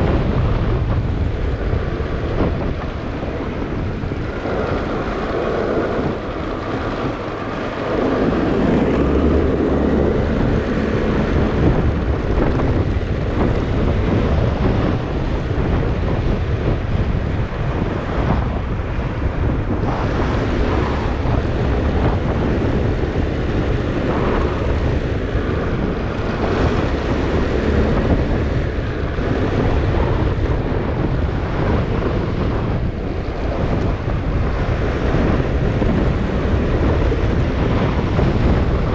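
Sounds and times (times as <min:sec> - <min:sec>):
motorcycle engine and road rumble: 0:00.0 - 0:38.9
wind buffeting microphone: 0:00.0 - 0:38.9.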